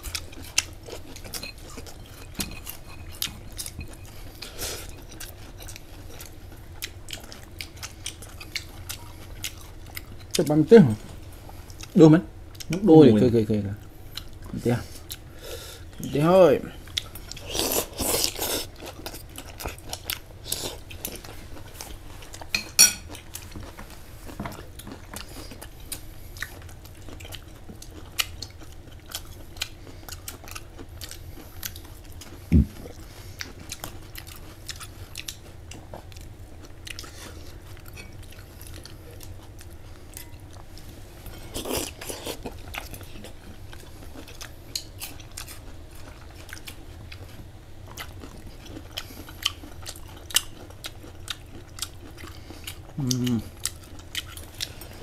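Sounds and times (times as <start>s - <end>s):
person chewing and crunching food: 0.0s - 12.9s, 13.8s - 55.0s
steady low hum: 0.0s - 55.0s.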